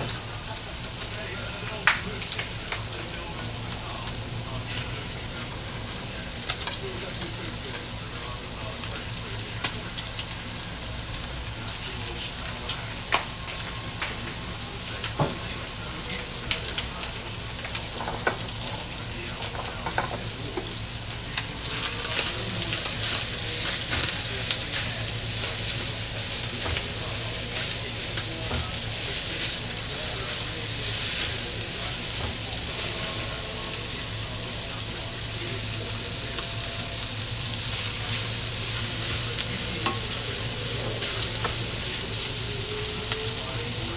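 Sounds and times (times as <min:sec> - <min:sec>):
food sizzling in frying pan: 0:00.0 - 0:43.9.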